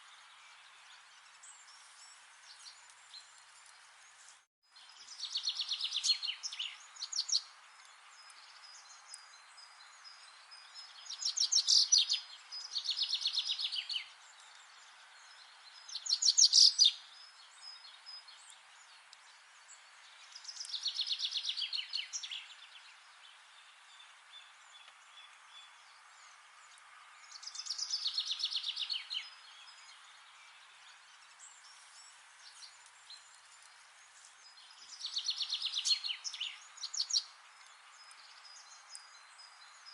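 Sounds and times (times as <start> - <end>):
faint hiss: 0.0 - 39.9
songbirds singing: 0.0 - 39.9.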